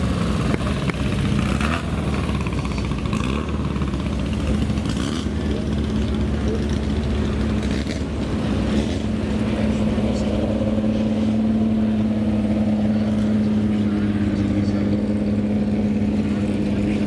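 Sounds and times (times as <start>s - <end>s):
racing car engine idling: 0.0s - 17.0s.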